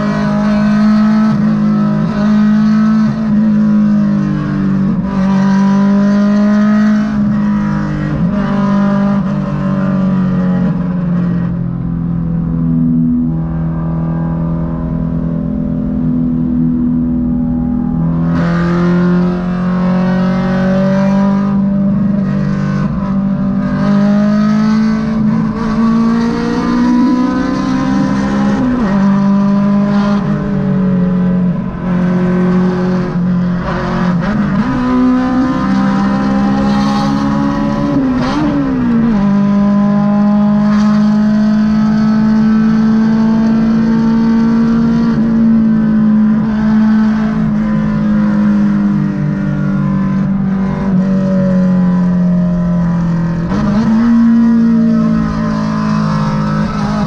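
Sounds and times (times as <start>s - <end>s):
car engine revving: 0.0s - 57.0s
road noise: 0.0s - 57.0s.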